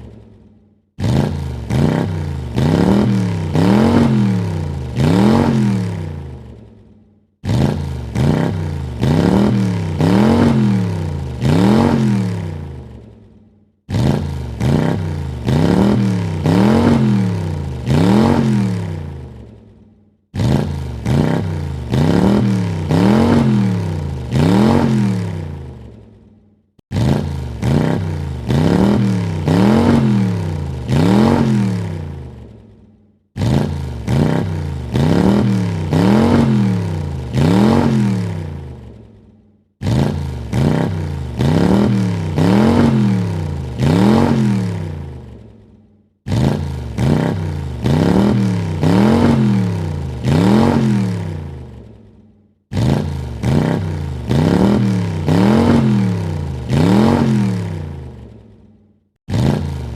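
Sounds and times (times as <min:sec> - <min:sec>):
car engine revving: 0:01.0 - 0:06.7, 0:07.4 - 0:13.2, 0:13.9 - 0:19.6, 0:20.3 - 0:26.1, 0:26.9 - 0:32.7, 0:33.4 - 0:39.2, 0:39.8 - 0:45.6, 0:46.3 - 0:51.9, 0:52.7 - 0:58.4, 0:59.3 - 0:59.9.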